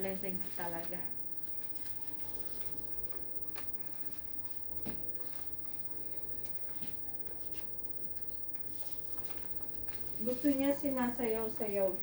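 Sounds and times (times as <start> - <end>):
soft handling rustling: 1.6 - 11.9.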